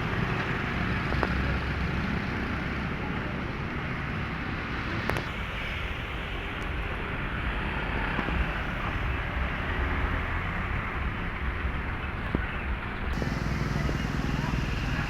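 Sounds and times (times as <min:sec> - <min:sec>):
moving vehicle rumbling: 0:00.0 - 0:15.0.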